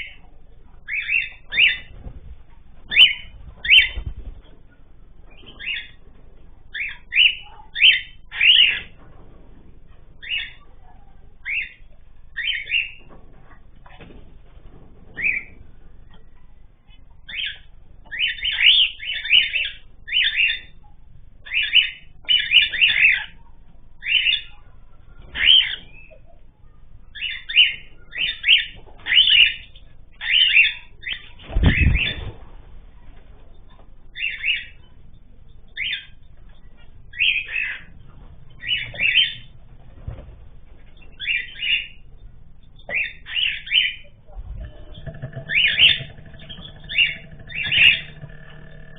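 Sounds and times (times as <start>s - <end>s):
birds chirping: 0.0s - 9.1s, 9.7s - 14.0s, 15.0s - 48.9s.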